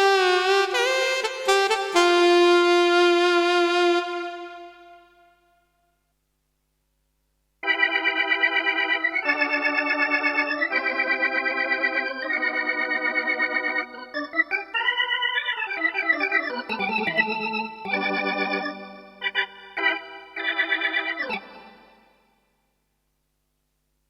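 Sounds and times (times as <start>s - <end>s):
synthesizer organ chords: 0.0s - 5.3s, 7.6s - 22.0s.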